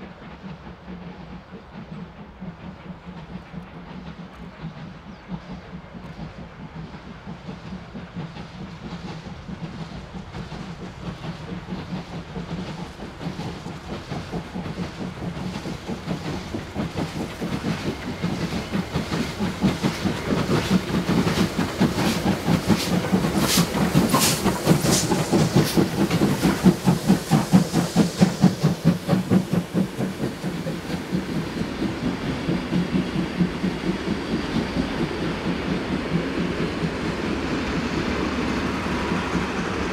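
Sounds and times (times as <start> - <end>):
steam locomotive exhaust beats: 0.0 - 39.9
train wheels clicking over rail joints: 0.0 - 39.9.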